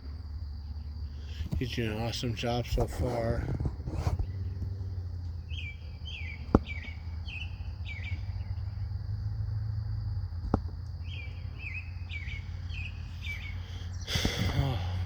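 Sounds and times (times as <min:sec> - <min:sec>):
high insect drone: 0:00.0 - 0:15.0
bird chirping: 0:00.2 - 0:15.0.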